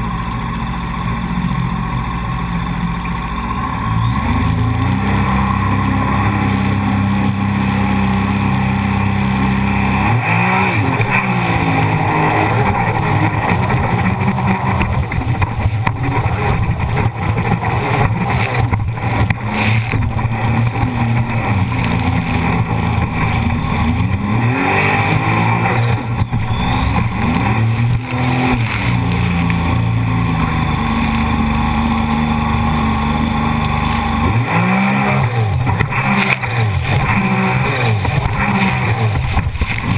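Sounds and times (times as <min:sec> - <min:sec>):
constant rushing noise: 0:00.0 - 0:39.9
jet ski engine revving: 0:00.0 - 0:39.9.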